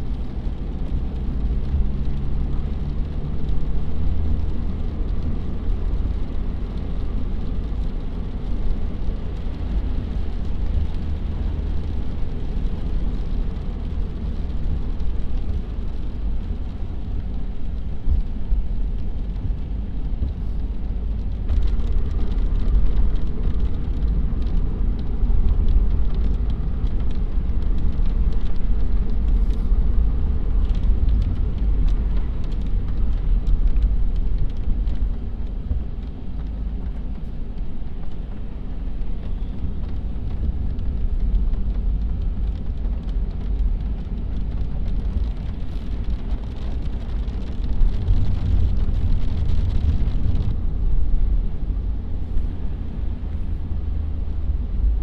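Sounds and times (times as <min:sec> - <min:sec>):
tyres hissing on wet road: 0:00.0 - 0:54.8
car engine and tyres rumbling: 0:00.0 - 0:55.0.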